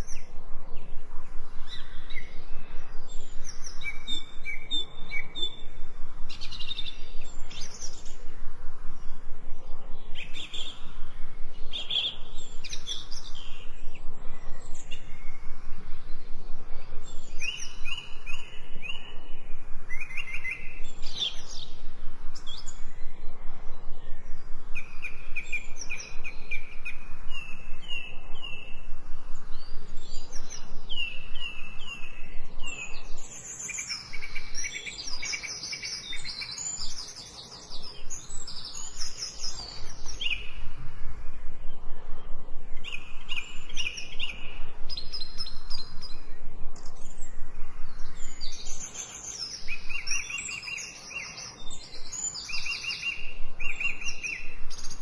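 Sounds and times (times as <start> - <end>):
faint steady hiss: 0.0 - 55.0
songbirds singing and chirping: 0.0 - 55.0.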